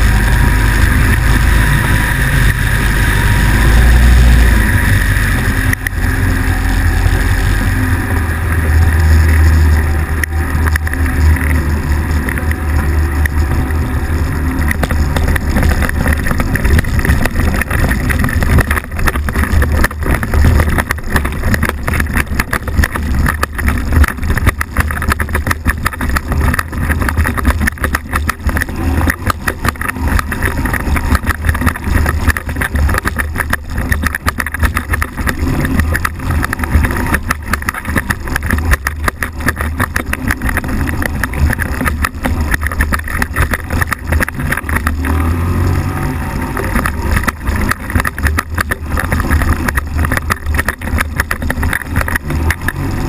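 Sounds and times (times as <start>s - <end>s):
engine and propeller running: 0.0s - 53.0s.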